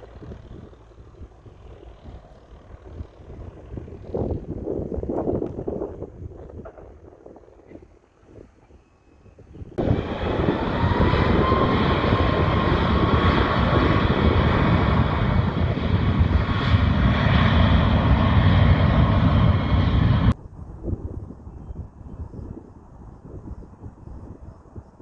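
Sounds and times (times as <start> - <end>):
airplane engine roaring: 0.0 - 22.1.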